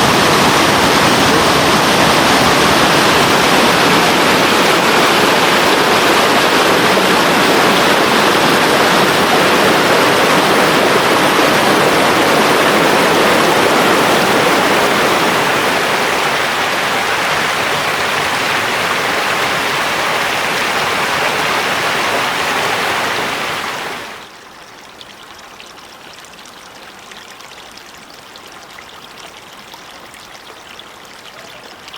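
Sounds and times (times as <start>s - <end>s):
stream babbling over rocks: 0.0s - 31.9s.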